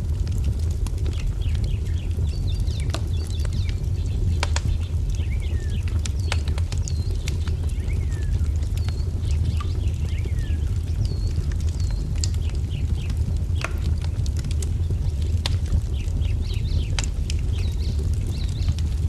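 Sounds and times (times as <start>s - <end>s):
wood fire crackling: 0.0s - 19.0s
songbirds chirping: 0.2s - 19.0s.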